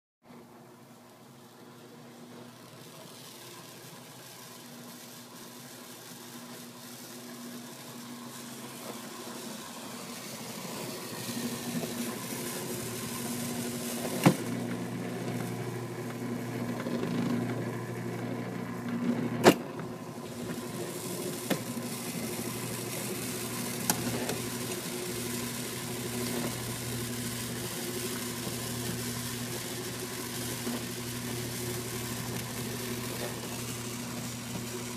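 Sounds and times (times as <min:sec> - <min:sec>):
motor hum: 0:00.4 - 0:34.9.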